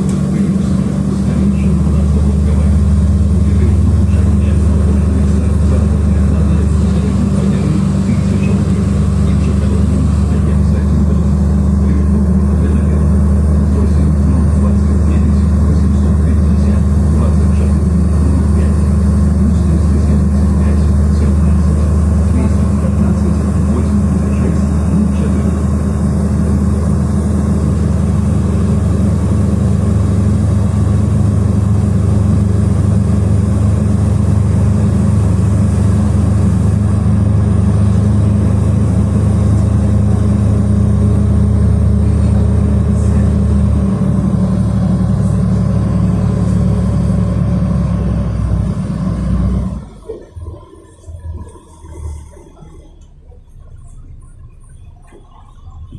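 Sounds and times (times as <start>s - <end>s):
bus engine and road hum: 0.0s - 55.9s.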